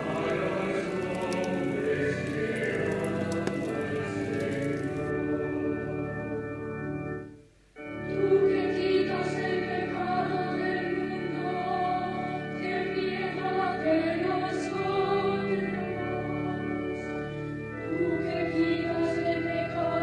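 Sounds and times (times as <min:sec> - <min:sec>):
choir singing: 0:00.0 - 0:05.7, 0:08.1 - 0:17.1, 0:17.9 - 0:20.0
sustained musical accompaniment: 0:00.0 - 0:20.0.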